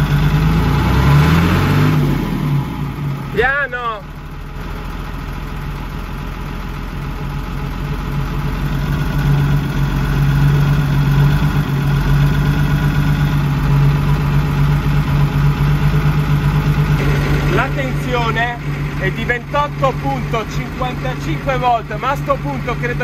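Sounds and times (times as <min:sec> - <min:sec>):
truck engine running at raised revs: 0:00.0 - 0:23.0.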